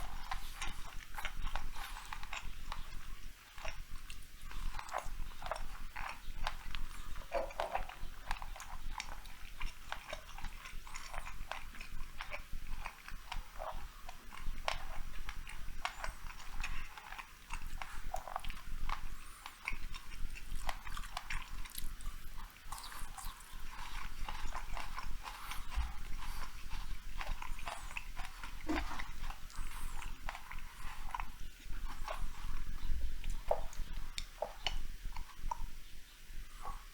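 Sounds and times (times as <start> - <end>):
person chewing food: 0.0 - 36.9.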